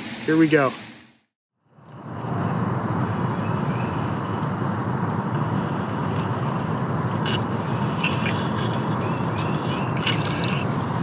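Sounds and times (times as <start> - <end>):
low outdoor rumble: 1.6 - 11.0.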